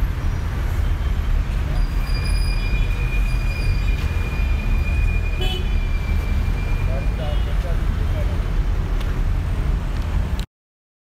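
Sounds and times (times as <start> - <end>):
car engines idling in traffic: 0.0 - 10.4.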